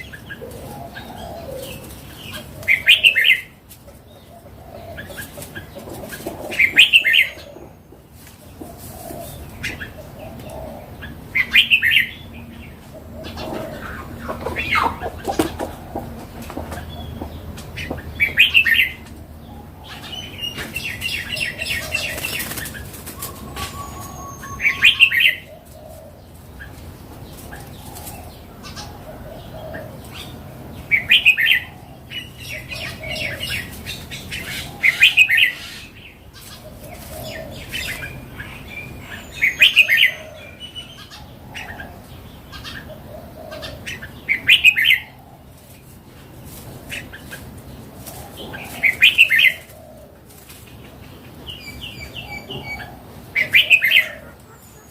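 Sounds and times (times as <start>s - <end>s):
bird singing warbled phrases: 0.0s - 3.6s, 9.0s - 16.0s, 16.7s - 45.6s, 46.2s - 54.9s.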